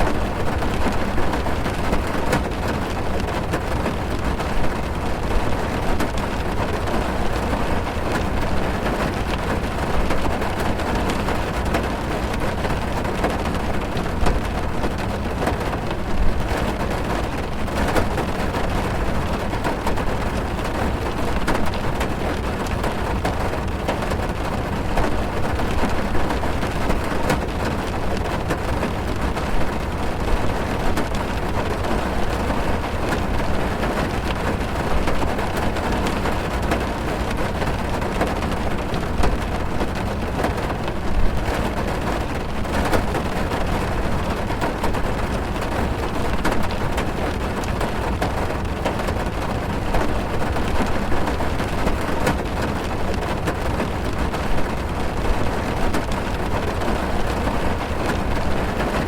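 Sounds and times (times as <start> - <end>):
rain on car roof: 0.0 - 59.0.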